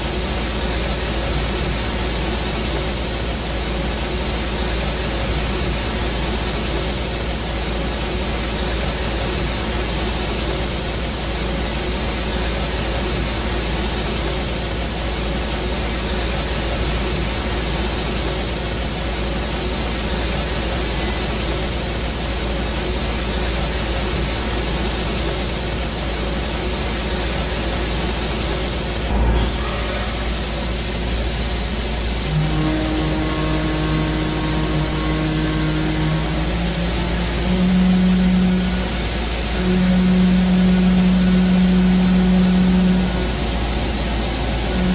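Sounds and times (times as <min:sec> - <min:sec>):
faint hum: 0:00.0 - 0:44.9
milling machine cutting metal: 0:00.0 - 0:44.9.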